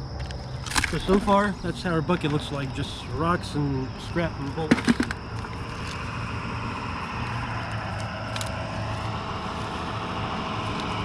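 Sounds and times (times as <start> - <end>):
vehicle engine running: 1.0 - 11.0.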